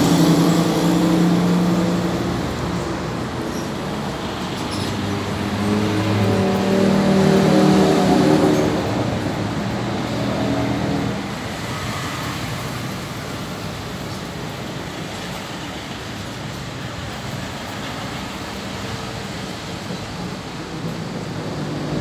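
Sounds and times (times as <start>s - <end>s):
traffic background noise: 0.0s - 22.0s.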